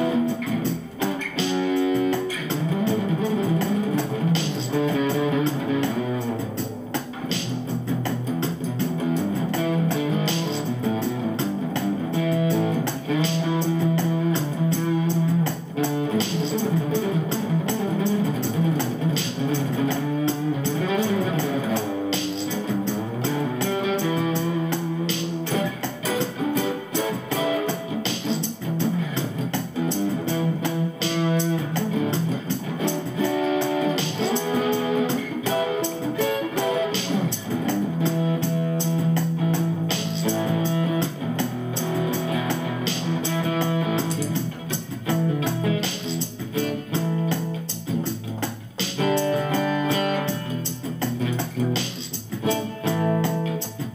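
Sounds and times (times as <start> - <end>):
overdriven acoustic guitar melody: 0.0 - 53.9.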